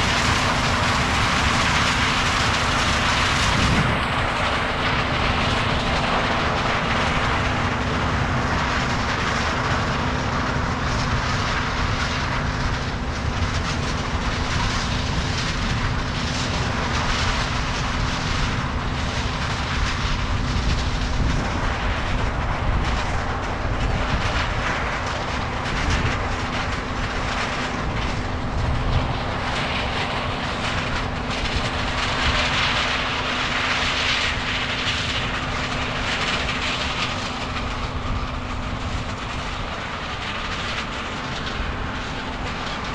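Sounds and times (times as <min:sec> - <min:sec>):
diesel harvest machinery running: 0:00.0 - 0:42.9.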